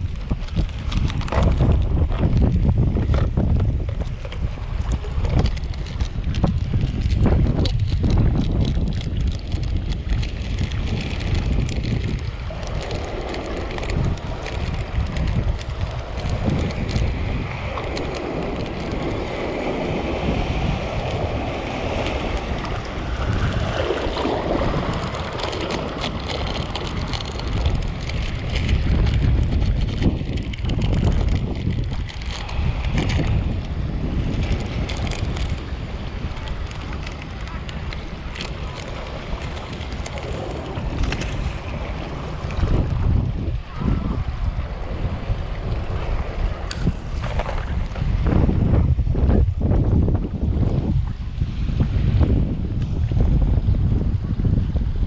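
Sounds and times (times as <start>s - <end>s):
water lapping on rocks: 0.0s - 54.8s
wind buffeting microphone: 0.0s - 55.0s.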